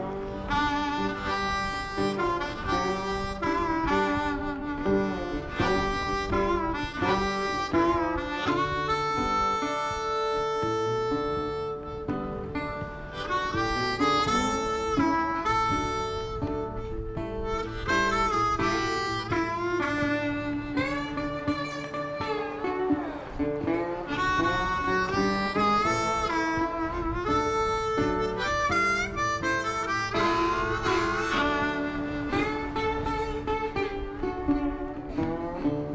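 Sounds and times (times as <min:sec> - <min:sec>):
acoustic guitar: 0:00.0 - 0:35.9
harmonica melody: 0:00.0 - 0:35.9.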